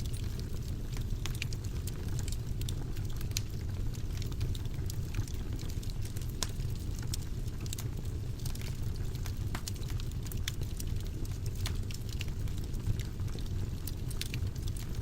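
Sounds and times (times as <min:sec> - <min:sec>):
burning wood crackling and popping: 0:00.0 - 0:15.0
fire flames rumbling: 0:00.0 - 0:15.0.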